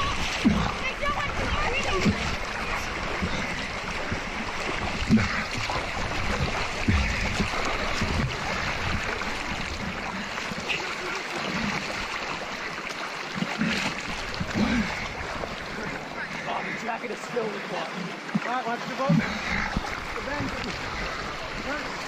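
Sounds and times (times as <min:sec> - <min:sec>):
rushing river water: 0:00.0 - 0:22.0.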